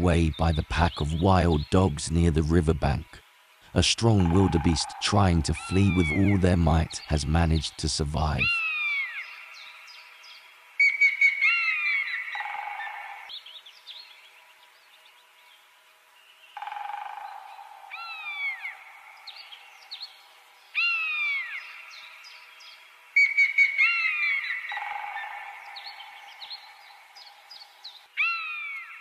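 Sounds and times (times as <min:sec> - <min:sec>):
thin steady hiss: 0:00.0 - 0:29.0.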